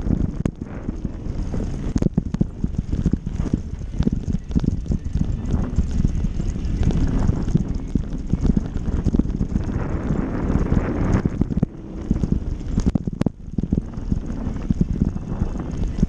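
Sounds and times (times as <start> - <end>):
bicycle rattling on rough trail: 0.0 - 16.0
tyres over dirt and rocks: 0.0 - 16.0
wind on microphone: 0.0 - 16.0.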